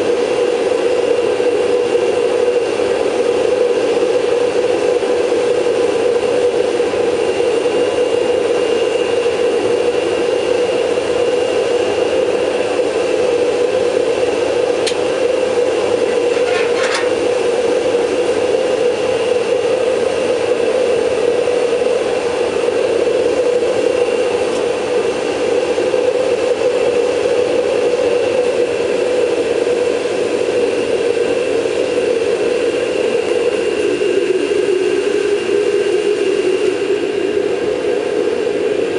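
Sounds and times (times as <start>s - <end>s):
gas forge burner roaring: 0.0s - 38.9s
vacuum motor high whine: 0.0s - 38.9s.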